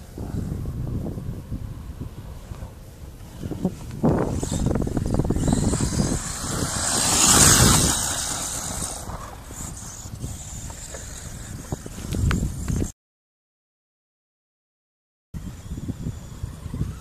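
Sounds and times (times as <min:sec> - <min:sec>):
toy truck motor on sand: 0:00.2 - 0:12.9, 0:15.4 - 0:17.0.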